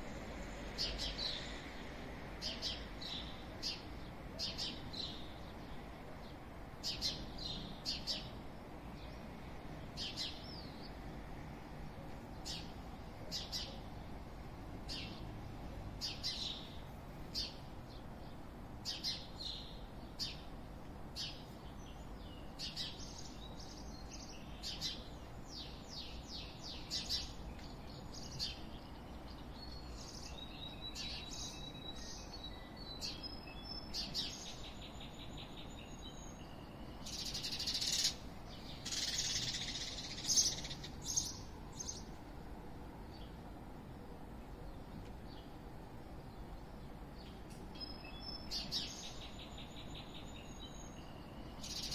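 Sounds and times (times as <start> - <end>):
faint background noise: 0.0 - 51.9
small birds chirping: 2.4 - 11.1, 12.1 - 51.9.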